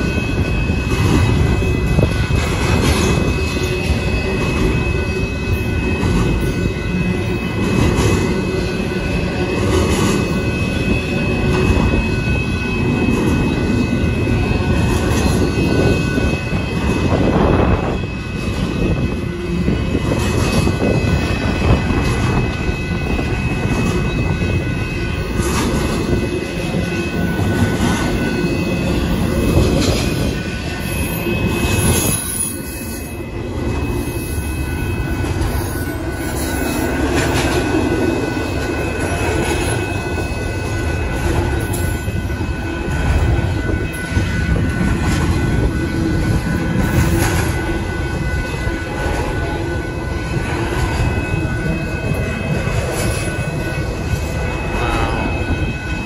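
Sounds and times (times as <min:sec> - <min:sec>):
train wheels rumbling on rail: 0:00.0 - 0:56.0
thin high tone: 0:10.2 - 0:56.0.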